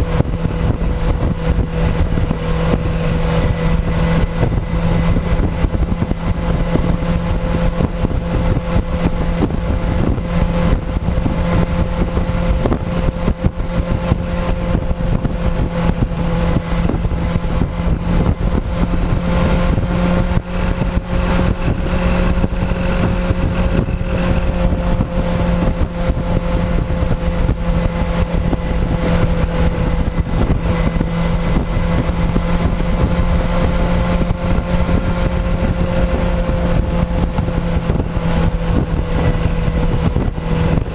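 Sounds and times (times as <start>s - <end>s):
low rumble: 0.0s - 40.9s
motorcycle engine cruising: 0.0s - 40.9s.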